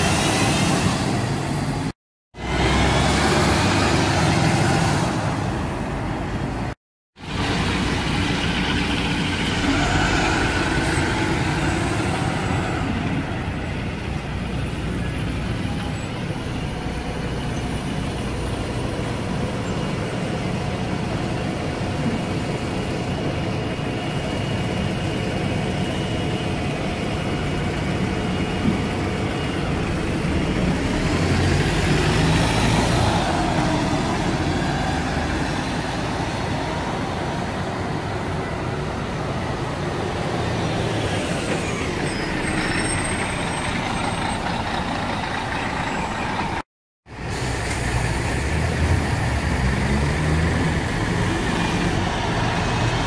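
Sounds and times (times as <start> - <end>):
traffic passing by: 0.0 - 53.0.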